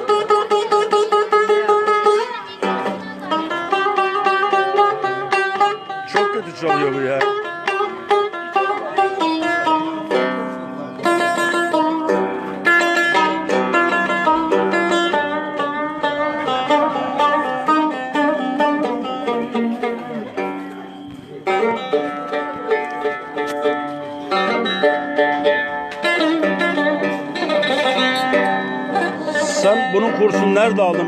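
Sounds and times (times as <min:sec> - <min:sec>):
fretless lute playing dance tune: 0:00.0 - 0:31.0.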